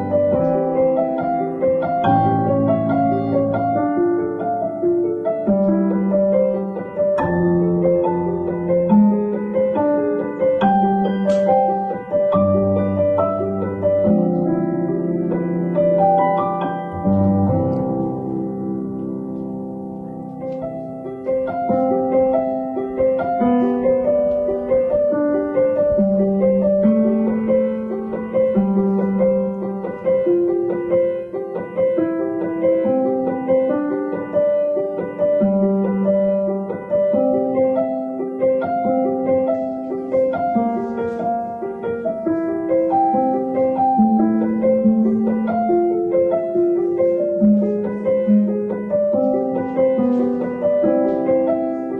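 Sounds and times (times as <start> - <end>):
gentle piano music: 0.0 - 51.9.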